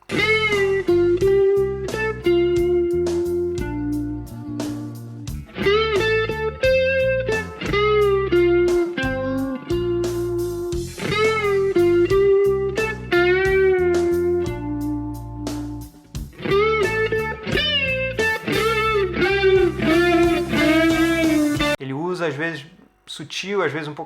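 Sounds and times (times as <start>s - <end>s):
electric guitar with chorus effect: 0.0s - 21.8s.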